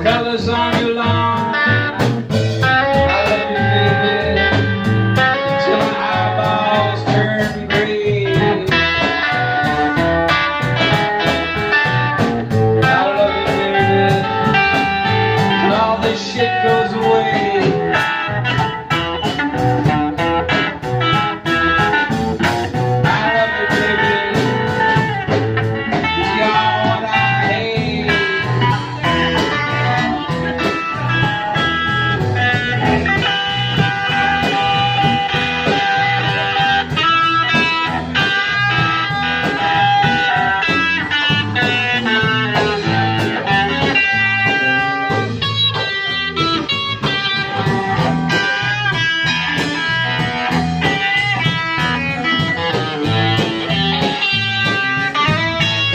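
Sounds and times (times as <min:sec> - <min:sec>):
bass guitar: 0:00.0 - 0:55.9
drums: 0:00.0 - 0:55.9
electric guitar bending notes: 0:00.0 - 0:55.9.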